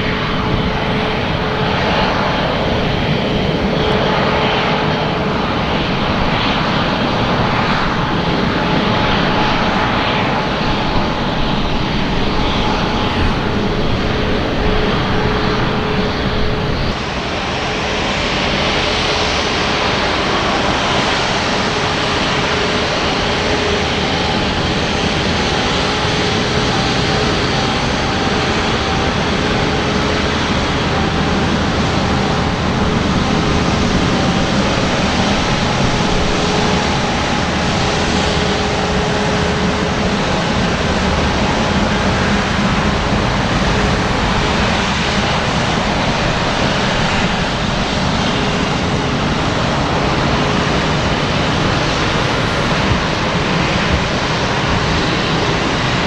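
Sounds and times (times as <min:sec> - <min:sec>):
faint jet whine: 0:00.0 - 0:56.0
jet engines rumbling: 0:00.0 - 0:56.0.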